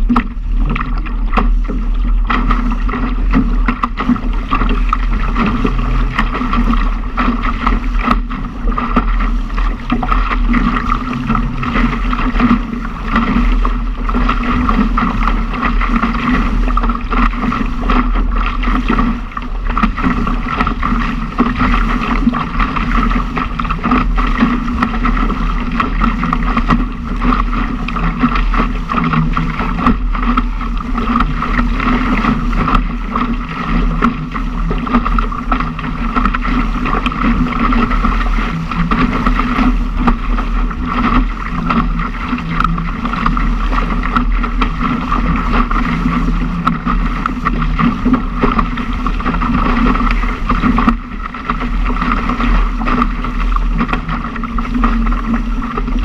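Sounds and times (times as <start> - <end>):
water rushing along boat hull: 0.0 - 56.0
wind buffeting microphone: 0.0 - 56.0.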